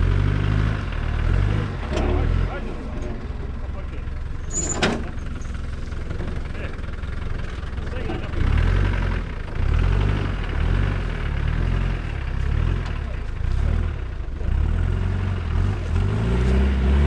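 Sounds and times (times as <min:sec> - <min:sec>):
off-road vehicle engine under load: 0:00.0 - 0:17.0.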